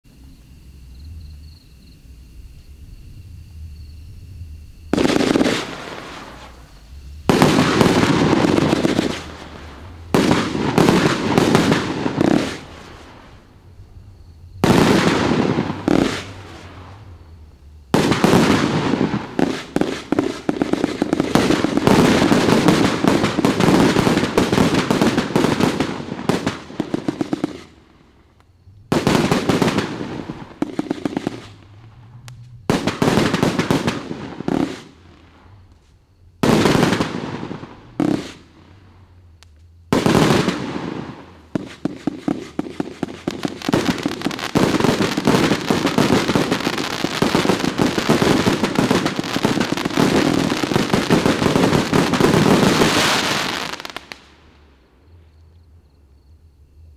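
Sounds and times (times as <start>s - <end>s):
fireworks firing rapid volleys: 4.9s - 13.5s, 14.6s - 17.1s, 17.9s - 54.4s.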